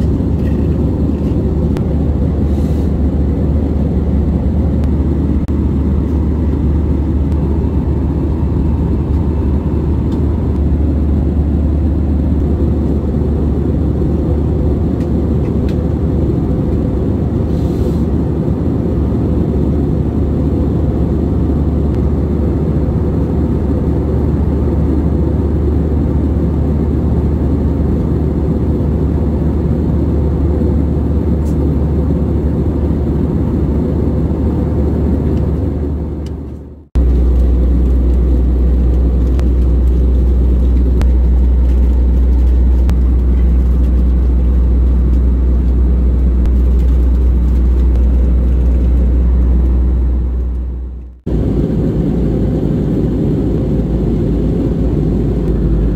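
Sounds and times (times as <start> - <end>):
airplane cabin engine rumble: 0.0 - 55.9.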